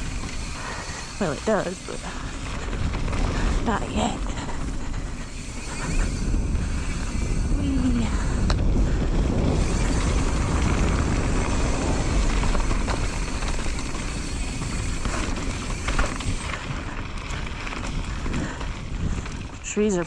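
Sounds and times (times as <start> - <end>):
bike rattling: 0.0 - 20.0
tyres rolling on wet dirt: 0.0 - 20.0
wind rushing over microphone: 0.0 - 20.0.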